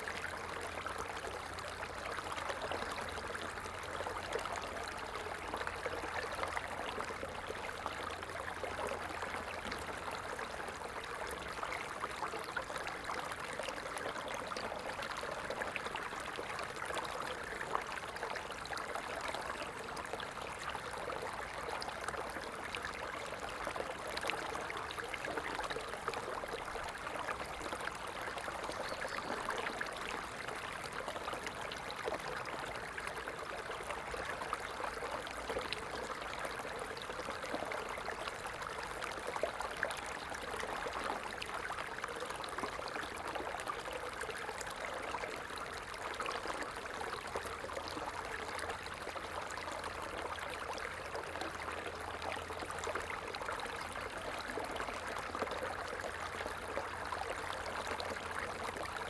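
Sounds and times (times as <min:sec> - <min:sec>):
small stream flowing: 0:00.0 - 0:59.0.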